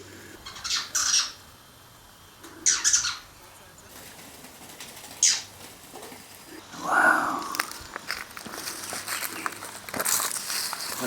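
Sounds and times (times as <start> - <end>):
bird calling: 0.0 - 1.5, 2.4 - 9.8.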